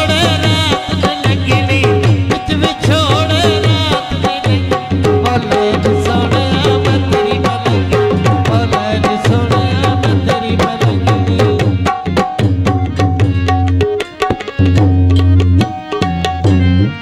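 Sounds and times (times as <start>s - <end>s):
harmonium chords: 0.0s - 17.0s.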